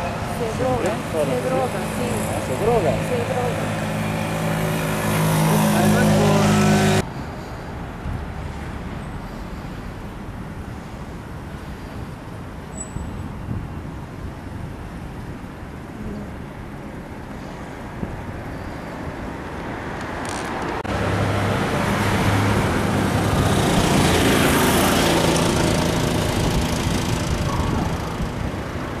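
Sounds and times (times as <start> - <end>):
vehicle passing with low hum: 0.0 - 12.5, 15.7 - 29.0
road traffic noise: 0.0 - 29.0.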